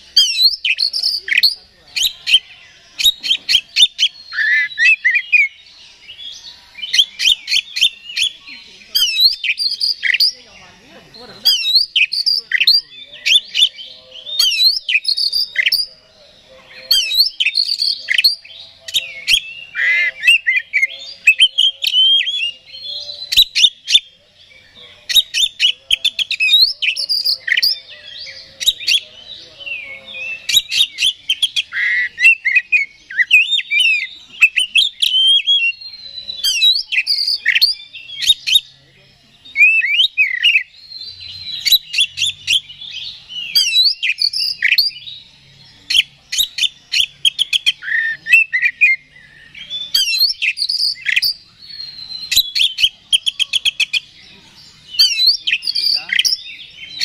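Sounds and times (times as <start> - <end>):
bird singing whistles and chirps: 0.0 - 57.0.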